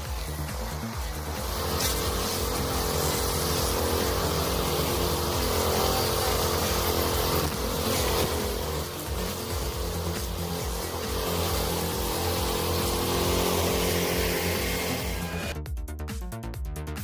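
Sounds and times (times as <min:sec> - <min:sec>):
stump grinder engine running: 0:00.0 - 0:15.6.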